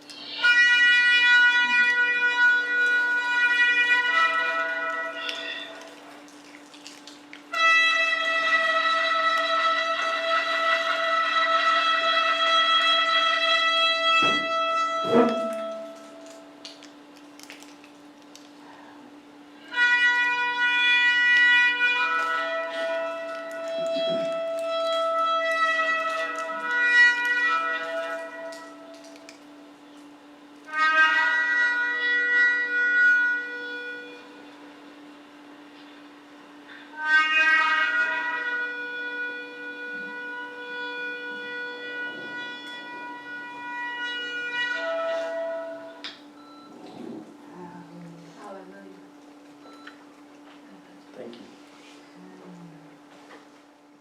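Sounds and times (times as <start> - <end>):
shofars blowing long blasts: 0.0 - 48.7.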